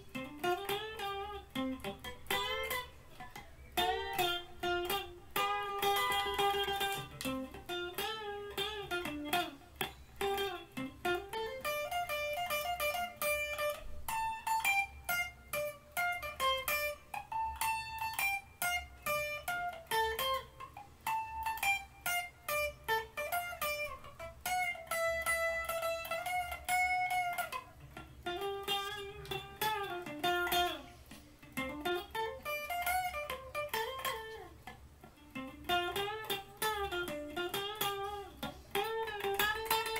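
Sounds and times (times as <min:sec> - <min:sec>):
electric guitar lead lines: 0:00.0 - 0:39.9.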